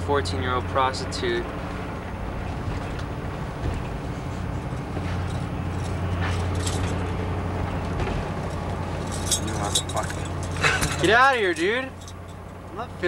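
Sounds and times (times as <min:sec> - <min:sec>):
bus engine drone: 0:00.0 - 0:13.0
road noise: 0:00.0 - 0:13.0
light rattles: 0:01.6 - 0:12.9.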